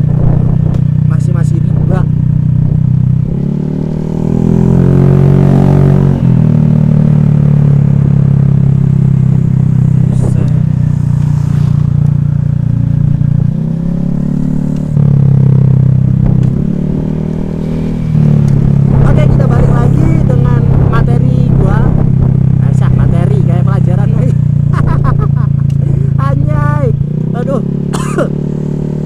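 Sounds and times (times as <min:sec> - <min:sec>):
scooter engine running: 0:00.0 - 0:29.0.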